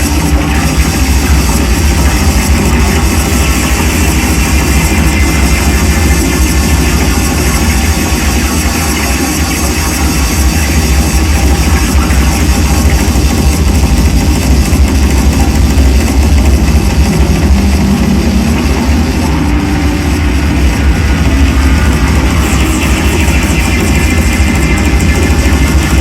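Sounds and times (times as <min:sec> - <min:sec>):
electronic noise wall: 0:00.0 - 0:26.0
heavy low drone: 0:00.0 - 0:26.0.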